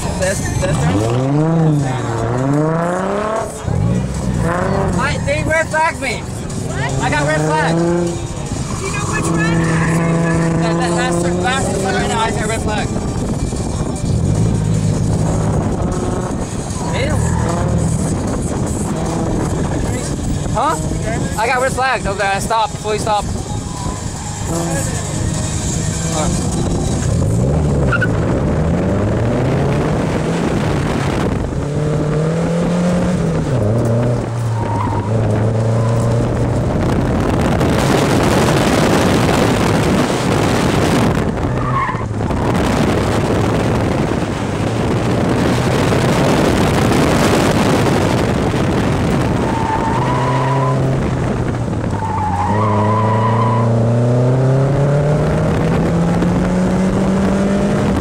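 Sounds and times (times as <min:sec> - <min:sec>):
car engine revving: 0:00.0 - 0:58.0
tires skidding and squealing: 0:04.4 - 0:31.1, 0:33.5 - 0:44.5, 0:45.1 - 0:54.6.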